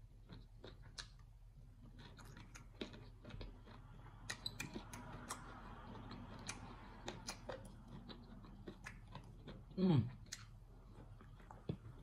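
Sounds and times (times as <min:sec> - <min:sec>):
wet mouth chewing clicks: 0:02.0 - 0:12.0.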